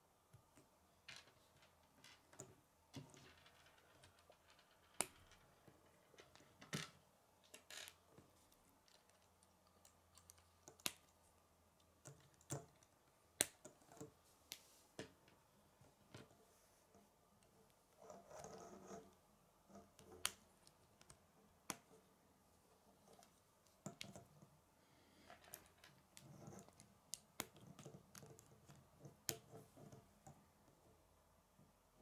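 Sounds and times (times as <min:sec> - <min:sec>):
soft rustling of plastic parts: 0:00.3 - 0:32.0.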